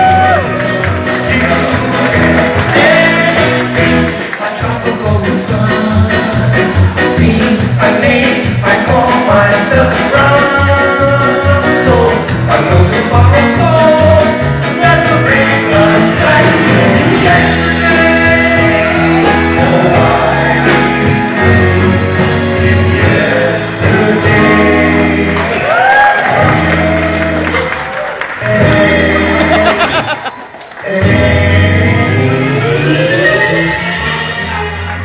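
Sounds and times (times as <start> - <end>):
drums: 0.0 - 35.0
men singing into microphones: 1.1 - 33.8.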